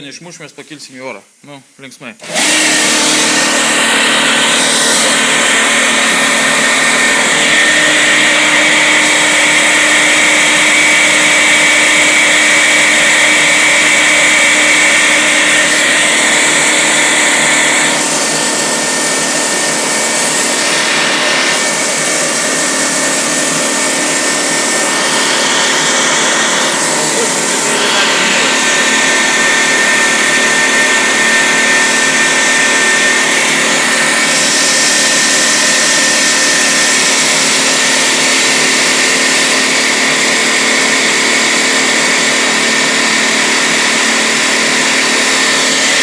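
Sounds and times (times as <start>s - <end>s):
air compressor running: 2.2s - 46.0s.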